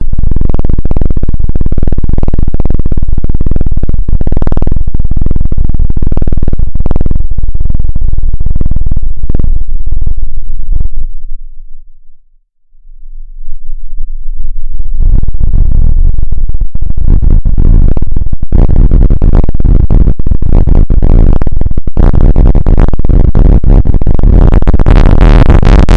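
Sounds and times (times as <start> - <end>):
distorted electronic buzz: 0.0 - 11.2, 12.8 - 25.9.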